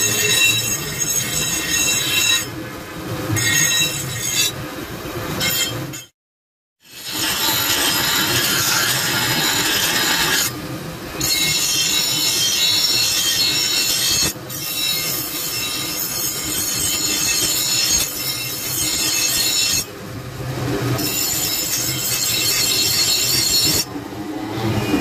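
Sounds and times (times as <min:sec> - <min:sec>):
bench grinder screeching on steel: 0:00.0 - 0:02.5, 0:03.3 - 0:04.6, 0:05.4 - 0:06.1, 0:06.8 - 0:10.6, 0:11.2 - 0:19.9, 0:20.8 - 0:25.0.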